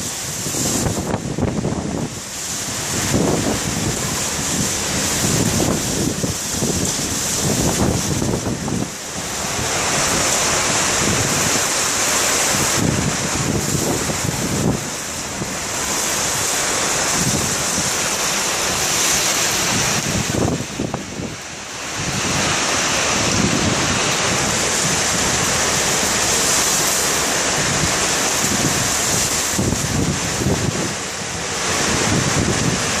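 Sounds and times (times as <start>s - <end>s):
ocean surf breaking: 0.0s - 33.0s
wind buffeting microphone: 0.0s - 33.0s.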